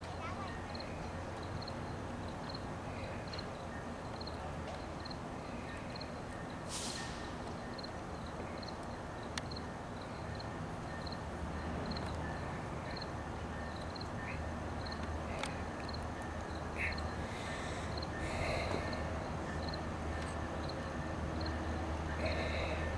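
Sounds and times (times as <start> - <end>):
diesel locomotive idling: 0.4 - 22.9.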